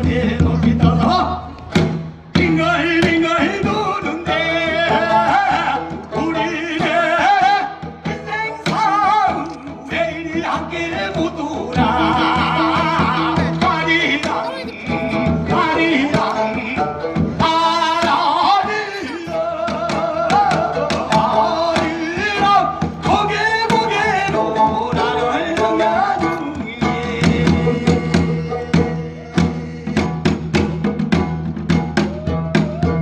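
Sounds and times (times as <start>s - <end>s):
man singing folk song: 0.0s - 31.0s
drum strokes: 0.0s - 33.0s
plucked lute: 0.0s - 33.0s.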